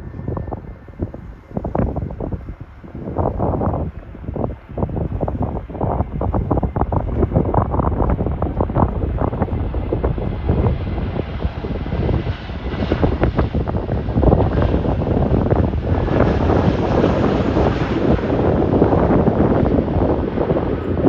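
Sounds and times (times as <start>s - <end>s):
jet airliner passing overhead: 0.0s - 21.0s
wind buffeting on microphone: 0.0s - 21.0s.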